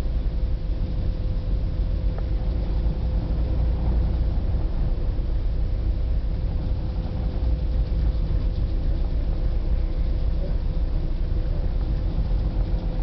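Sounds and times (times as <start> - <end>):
faint steady hum: 0.0 - 13.0
ferry engines rumbling: 0.0 - 13.0.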